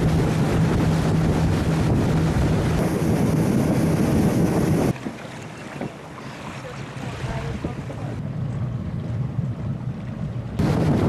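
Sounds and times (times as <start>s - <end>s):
motorboat engine humming: 0.0s - 11.0s
rushing water: 0.0s - 11.0s
wind buffeting microphone: 0.0s - 11.0s.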